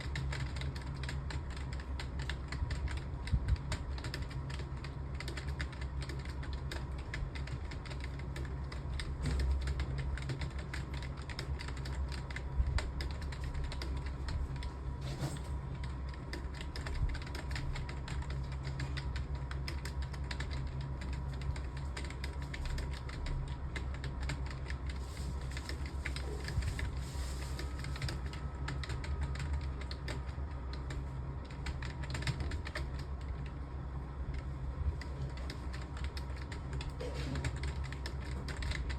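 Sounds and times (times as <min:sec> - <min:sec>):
keyboard typing: 0:00.0 - 0:14.7, 0:15.8 - 0:33.6, 0:34.3 - 0:38.9
faint steady hum: 0:00.0 - 0:38.9.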